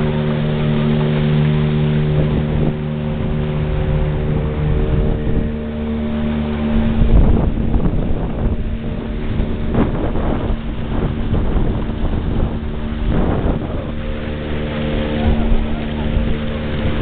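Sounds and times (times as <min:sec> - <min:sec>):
motorboat engine running: 0:00.0 - 0:17.0
wind buffeting microphone: 0:00.0 - 0:17.0.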